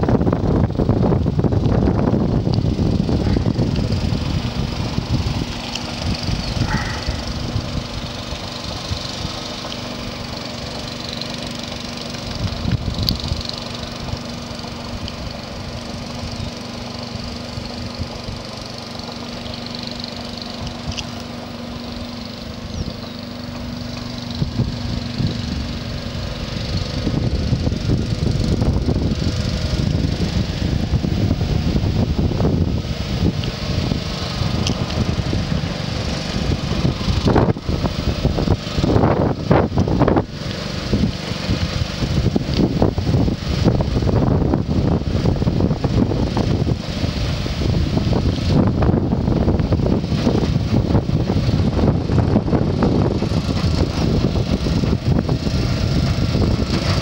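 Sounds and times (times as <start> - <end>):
small engine humming: 0.0 - 57.0.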